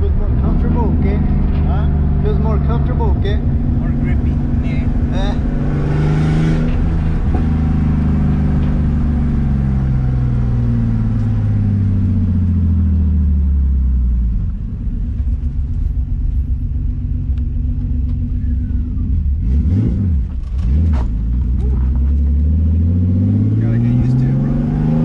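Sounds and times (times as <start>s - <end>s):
car engine driving: 0.0s - 25.0s.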